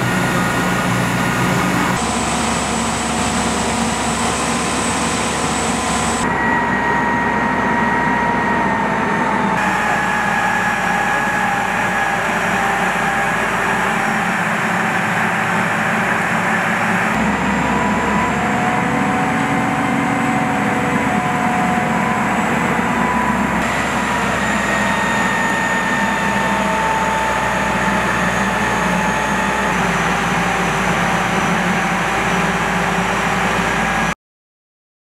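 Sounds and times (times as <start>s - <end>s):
crane engine running: 0.0s - 34.2s.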